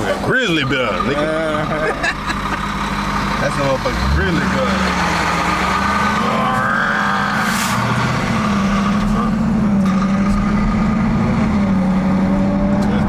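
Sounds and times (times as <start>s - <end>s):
car engine growling exhaust: 0.0s - 13.0s.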